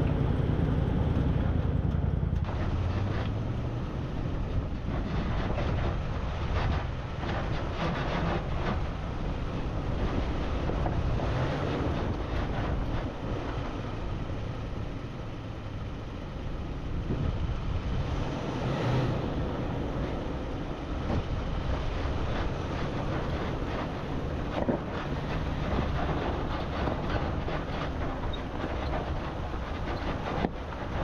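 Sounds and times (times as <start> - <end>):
vehicle engine rumbling: 0.0 - 31.0
wind buffeting microphone: 0.0 - 31.0.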